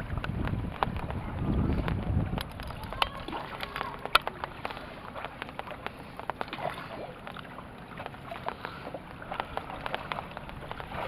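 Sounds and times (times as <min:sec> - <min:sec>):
water splashing around boat: 0:00.0 - 0:11.0.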